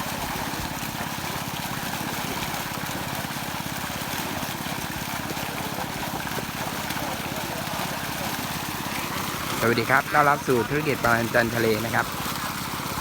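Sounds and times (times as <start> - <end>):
running water: 0.0 - 13.0
small engine running: 0.0 - 13.0.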